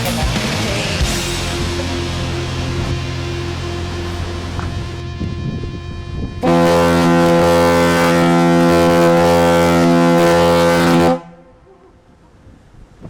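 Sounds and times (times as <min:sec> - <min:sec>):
ship's horn blast: 0:01.0 - 0:11.6.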